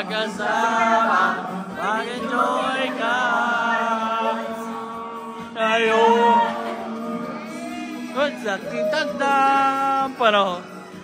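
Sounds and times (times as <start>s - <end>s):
group of voices singing: 0.0s - 11.0s.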